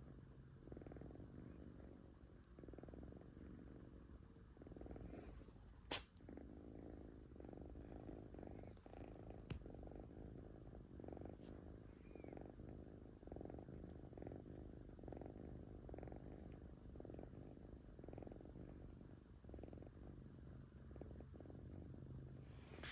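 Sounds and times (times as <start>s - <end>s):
kitten purring: 0.0s - 22.9s.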